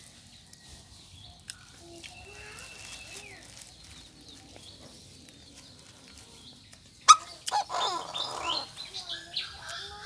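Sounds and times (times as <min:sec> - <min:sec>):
bird chirping: 0:00.2 - 0:10.0.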